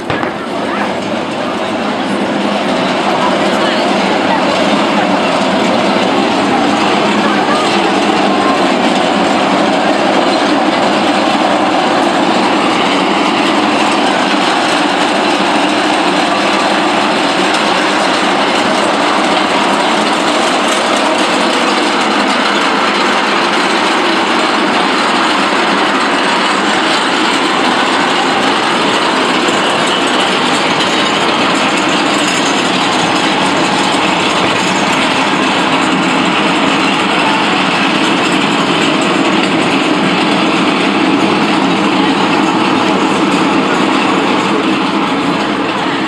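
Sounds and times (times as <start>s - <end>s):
cart wheels rattling on tarmac: 0.0s - 46.0s.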